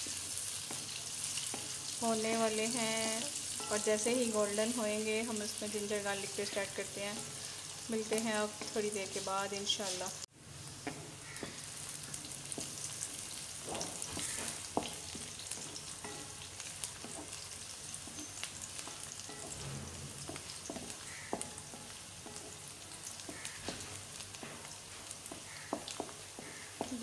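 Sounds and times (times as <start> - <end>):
onions sizzling in oil: 0.0 - 27.0.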